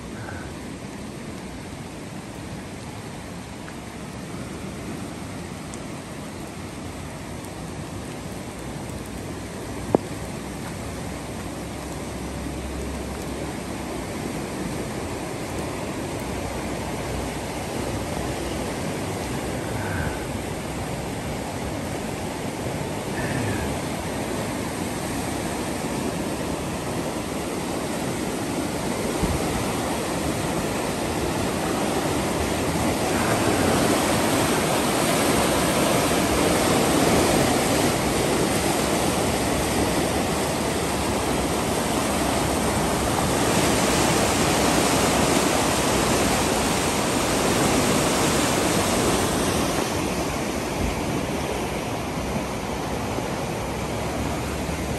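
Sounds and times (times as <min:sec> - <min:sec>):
floodwater rushing: 0:00.0 - 0:54.9.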